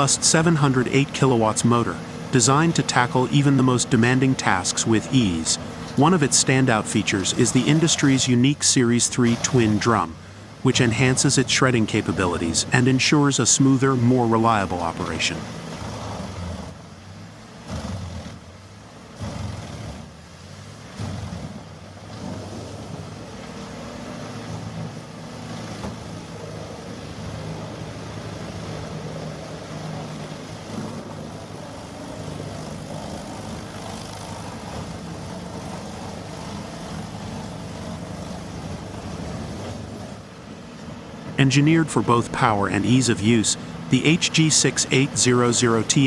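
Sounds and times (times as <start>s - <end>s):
shredder engine droning: 0.0s - 44.2s.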